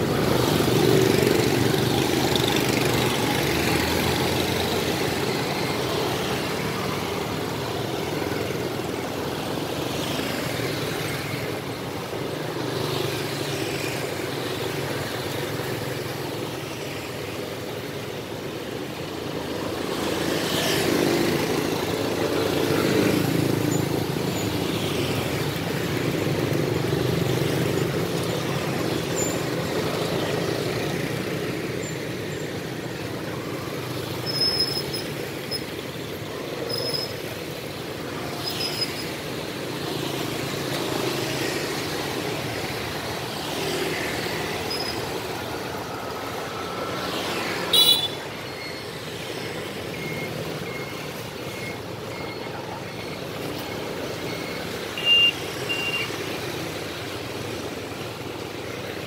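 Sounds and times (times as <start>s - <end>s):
vehicles passing by: 0.0s - 59.0s.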